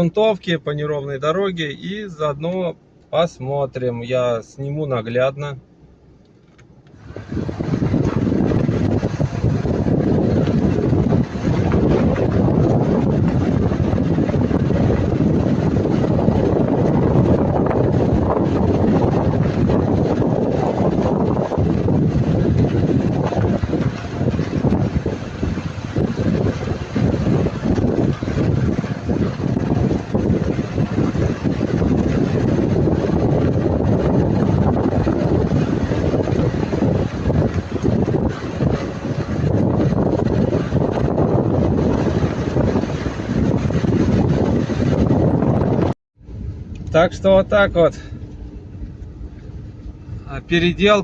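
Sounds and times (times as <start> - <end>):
car engine and road noise: 0.0 - 51.0.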